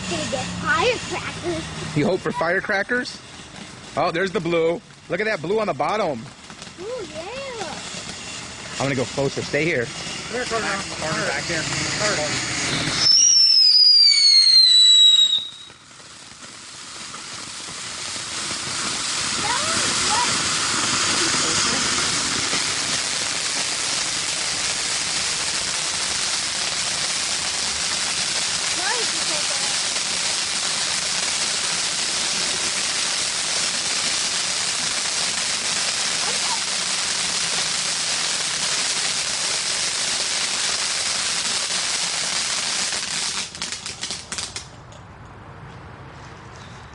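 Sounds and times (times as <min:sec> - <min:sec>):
firework fountain hissing: 0:00.0 - 0:44.7.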